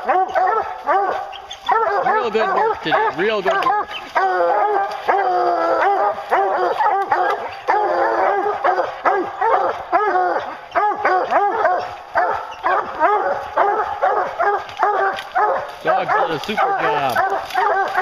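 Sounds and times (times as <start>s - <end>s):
hounds barking: 0.0s - 18.0s
hounds bawling: 0.0s - 18.0s.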